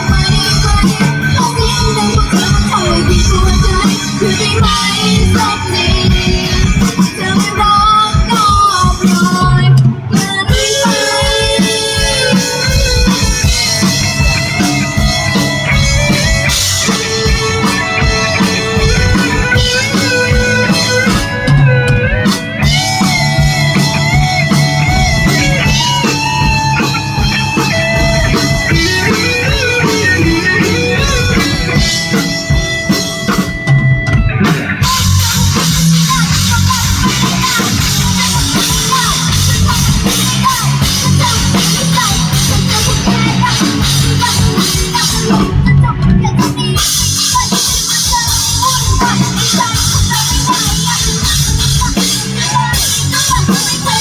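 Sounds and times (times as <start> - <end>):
bass guitar: 0.0 - 54.0
drum kit: 0.0 - 54.0
lead guitar melody: 0.0 - 54.0.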